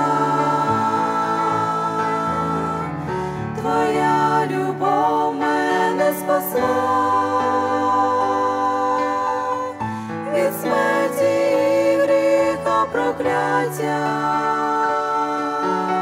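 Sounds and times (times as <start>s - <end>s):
grand piano: 0.0s - 16.0s
group singing a hymn: 0.0s - 16.0s.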